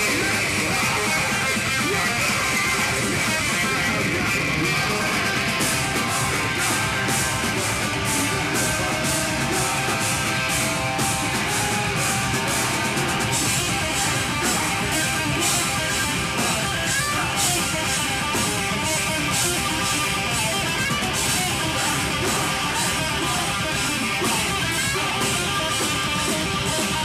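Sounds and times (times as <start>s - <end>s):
metalcore band playing live: 0.0s - 27.0s.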